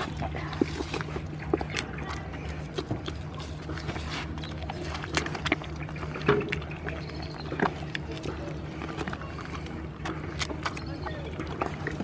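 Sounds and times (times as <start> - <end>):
goats chewing fruit: 0.0 - 12.0
steady low hum: 0.0 - 12.0.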